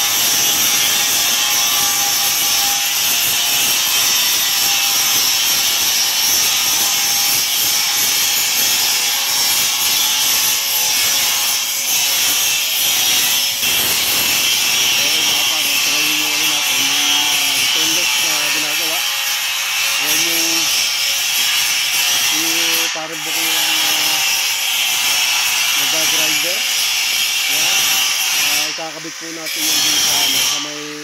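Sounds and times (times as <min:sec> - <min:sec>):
angle grinder grinding steel: 0:00.0 - 0:31.0.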